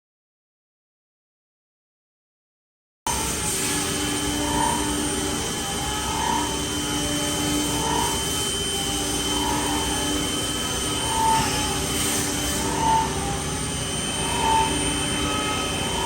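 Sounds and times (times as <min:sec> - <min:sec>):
machine mechanical whine: 0:03.1 - 0:16.0.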